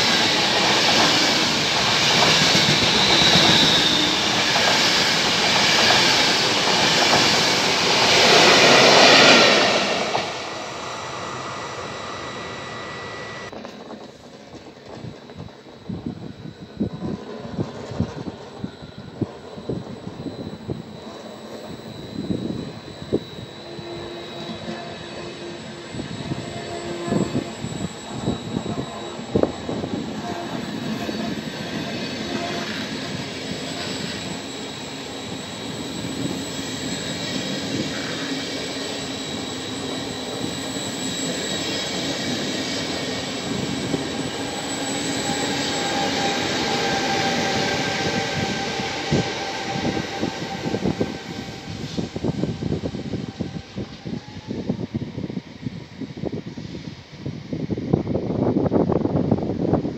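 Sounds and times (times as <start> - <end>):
train running noise with whine: 0.0 - 59.9.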